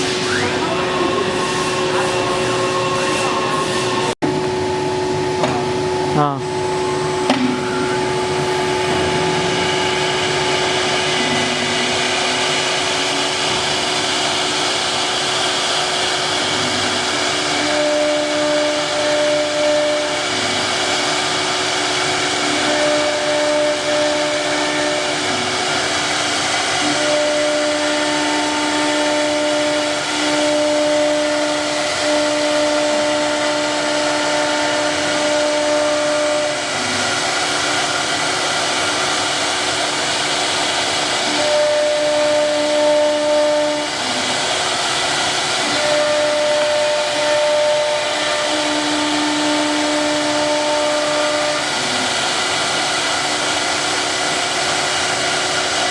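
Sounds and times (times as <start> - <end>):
wood router whining and hissing: 0.0 - 4.6, 6.9 - 55.9.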